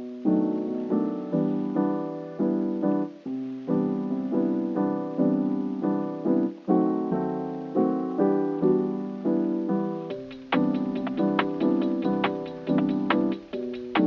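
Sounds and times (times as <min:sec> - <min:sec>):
lofi music with electric piano chords: 0:00.0 - 0:14.0.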